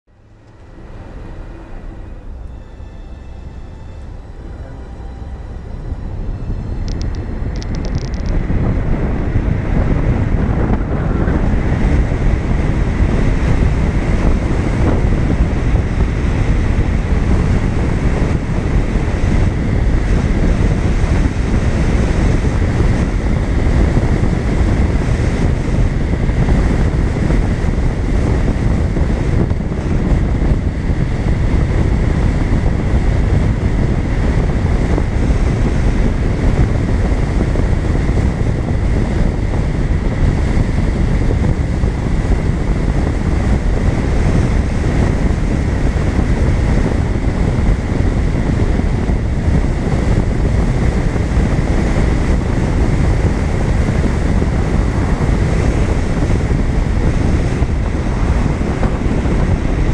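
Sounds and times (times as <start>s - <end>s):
moving vehicle rumble: 0.0s - 59.9s
wind rushing over microphone: 0.0s - 59.9s
faint high whine: 0.1s - 48.2s.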